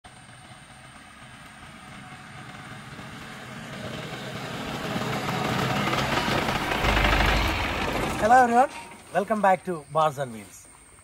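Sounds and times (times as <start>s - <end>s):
vehicle engine running: 0.0s - 9.1s
road noise: 0.0s - 11.0s.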